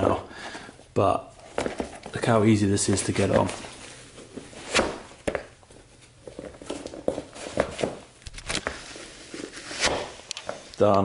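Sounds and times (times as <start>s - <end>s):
shoes and clothing rustling: 1.4s - 10.7s.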